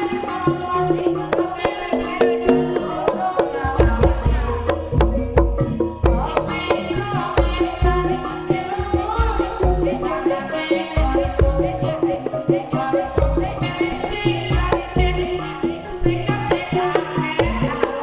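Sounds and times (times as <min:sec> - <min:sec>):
hand drums beating: 0:00.0 - 0:18.0
ringing tuned percussion: 0:00.0 - 0:18.0.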